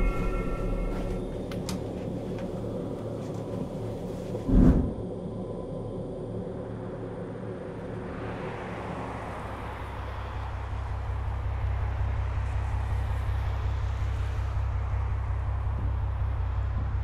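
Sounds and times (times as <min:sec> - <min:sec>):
deep rumble: 0:00.0 - 0:17.0.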